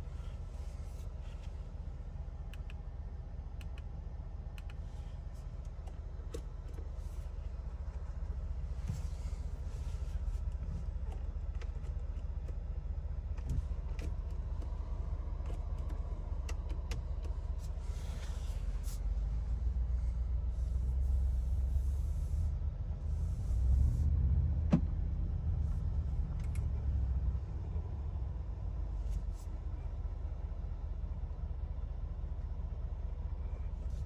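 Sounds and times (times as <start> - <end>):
car engine rumble: 0.0 - 34.0.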